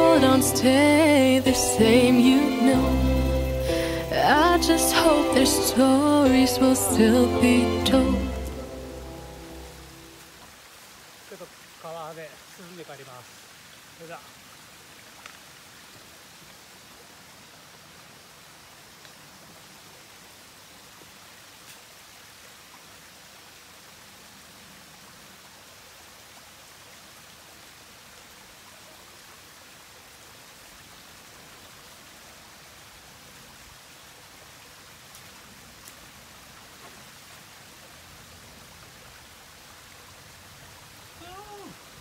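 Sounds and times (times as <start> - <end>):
stream water rushing: 0.0 - 42.0.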